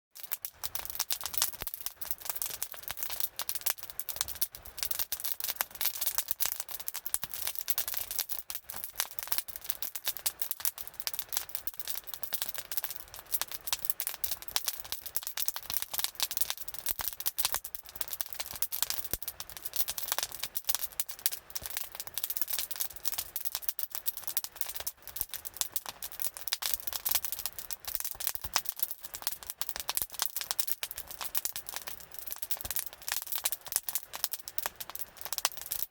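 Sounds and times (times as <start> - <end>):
campfire crackling: 0.2 - 35.9.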